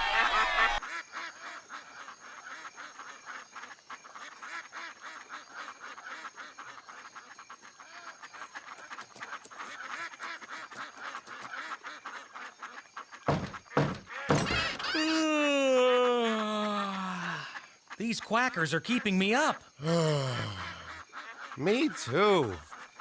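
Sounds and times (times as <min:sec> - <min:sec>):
ducks quacking: 0:00.0 - 0:15.0, 0:16.6 - 0:23.0.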